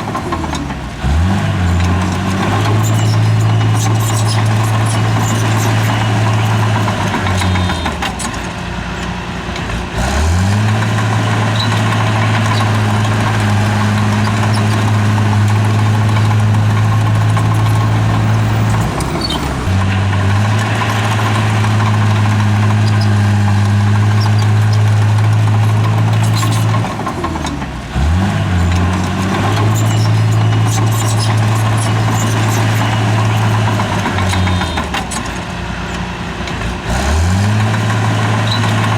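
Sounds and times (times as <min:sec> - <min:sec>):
heavy machine engine running: 0:00.0 - 0:38.9.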